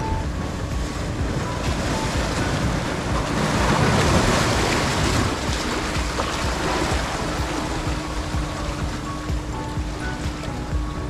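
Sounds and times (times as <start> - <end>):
wind buffeting microphone: 0.0 - 11.0
sea waves breaking on rocks: 0.4 - 11.0.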